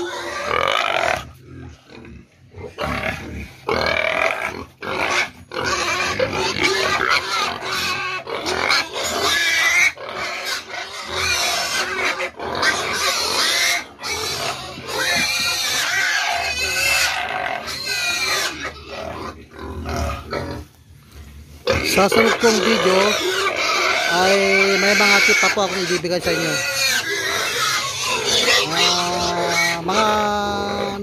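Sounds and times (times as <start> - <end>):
pigs grunting and squealing: 0.0 - 20.8, 21.4 - 31.0.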